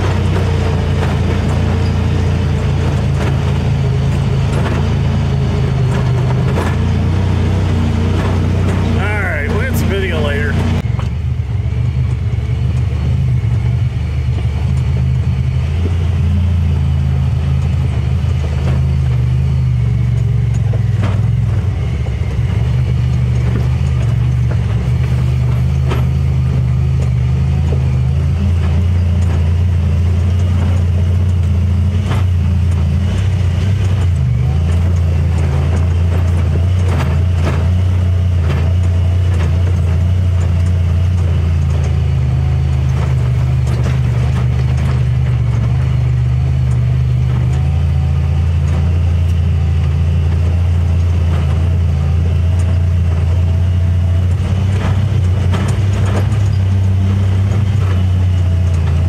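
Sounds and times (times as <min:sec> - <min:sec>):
knocks and rattles over rocks: 0:00.0 - 0:05.0, 0:05.7 - 0:10.7, 0:15.8 - 0:59.0
engine running: 0:00.0 - 0:59.0.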